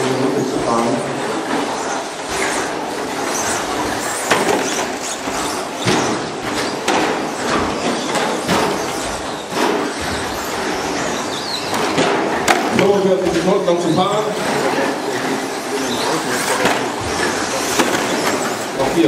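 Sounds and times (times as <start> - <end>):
whirr of toy truck motors: 1.4 - 12.7, 14.3 - 18.9
sharp knocks and clatter: 1.4 - 15.4, 16.3 - 19.0.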